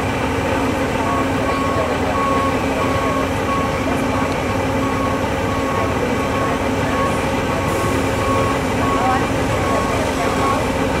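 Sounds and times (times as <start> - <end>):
crane diesel engine running: 0.0 - 11.0.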